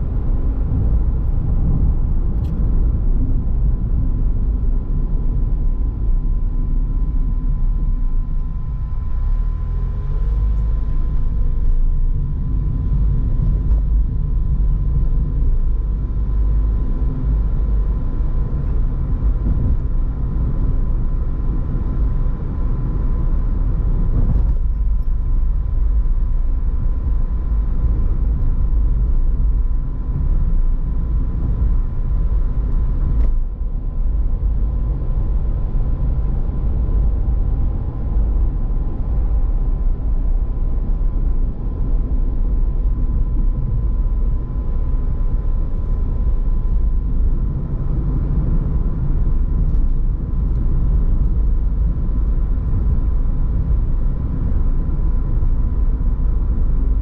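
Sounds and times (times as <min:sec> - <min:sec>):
faint steady whine: 0:00.0 - 0:57.0
road and engine rumble: 0:00.0 - 0:57.0.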